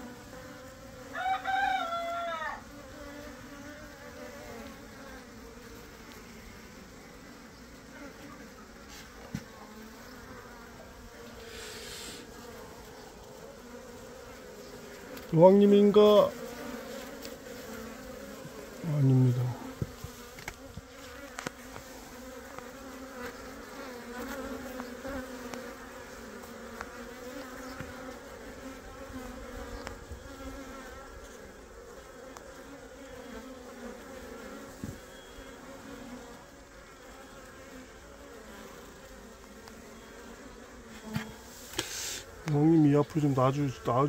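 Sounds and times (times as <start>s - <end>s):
bee swarm buzzing: 0.0s - 44.0s.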